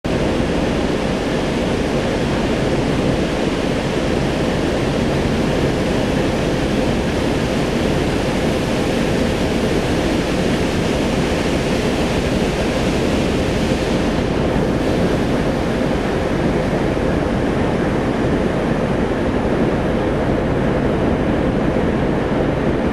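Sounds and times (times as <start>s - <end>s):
diesel locomotive engine rumbling: 0.1s - 22.4s.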